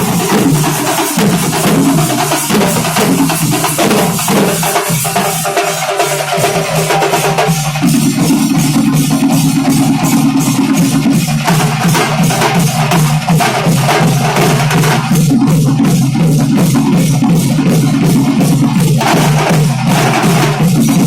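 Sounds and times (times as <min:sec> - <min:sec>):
fast festival drumming: 0:00.0 - 0:21.0.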